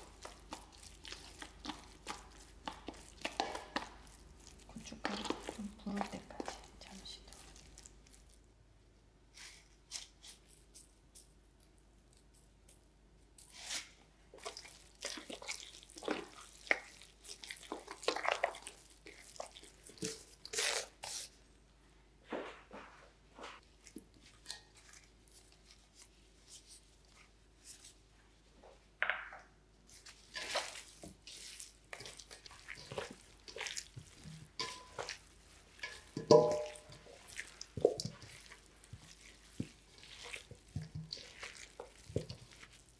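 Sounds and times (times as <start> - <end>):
wet squishing of food: 0.0 - 12.7, 13.4 - 21.6, 23.6 - 29.0, 29.8 - 42.9.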